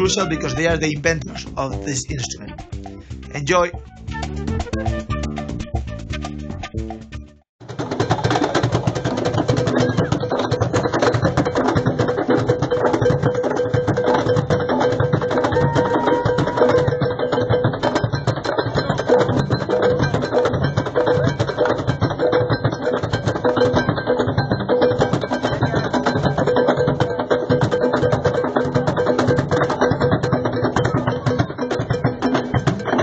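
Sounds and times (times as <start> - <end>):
cajon percussion groove: 0.0 - 33.0.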